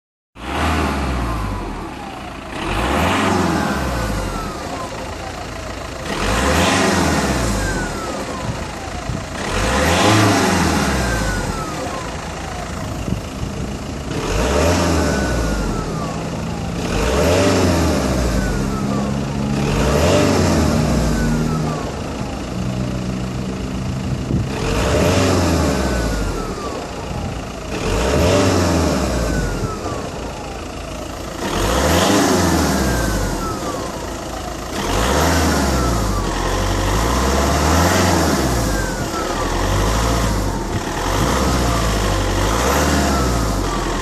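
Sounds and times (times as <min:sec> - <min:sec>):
diesel engine revving: 0:00.4 - 0:44.0.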